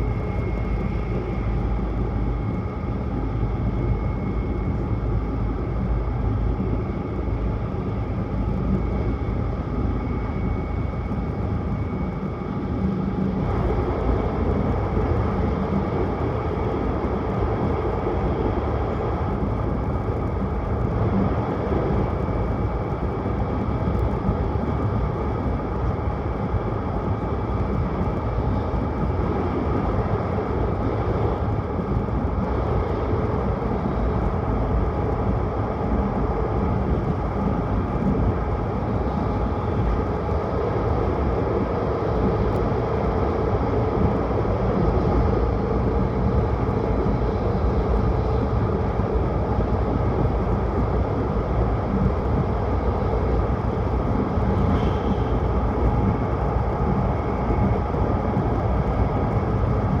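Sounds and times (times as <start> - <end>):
train running noise from inside: 0.0 - 60.0.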